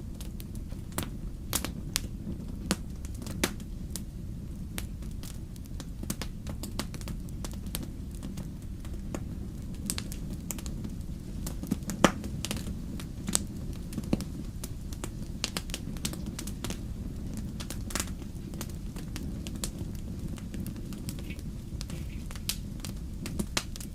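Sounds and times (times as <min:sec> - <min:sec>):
fire crackling in a fireplace: 0:00.0 - 0:23.9
low rumble of flames: 0:00.0 - 0:23.9.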